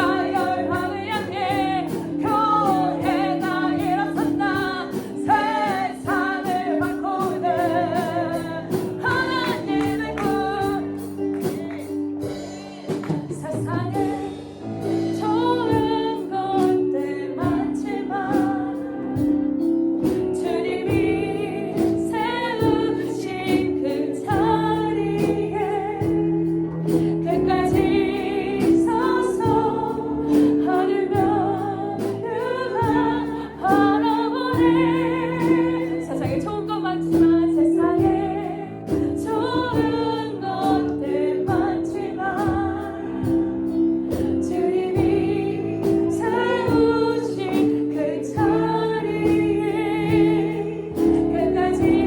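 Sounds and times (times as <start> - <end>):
band with steady beat: 0.0 - 52.0
choir singing worship song: 0.0 - 52.0.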